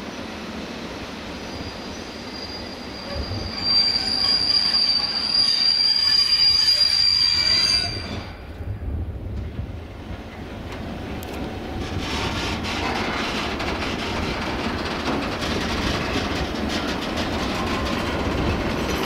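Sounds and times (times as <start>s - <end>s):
train wheels squealing on rails: 0.0s - 9.0s, 11.7s - 19.0s.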